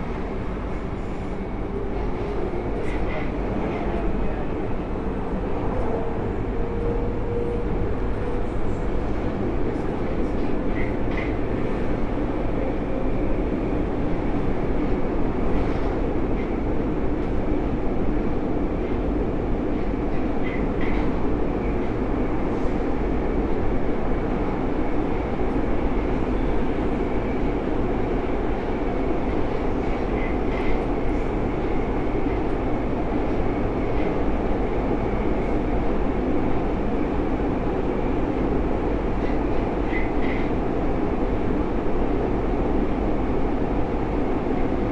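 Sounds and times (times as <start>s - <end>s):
metro train rumble: 0.0s - 44.9s.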